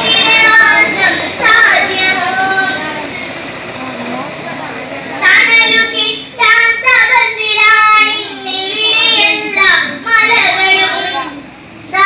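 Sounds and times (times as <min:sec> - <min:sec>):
girl singing: 0:00.0 - 0:03.1, 0:05.2 - 0:12.0.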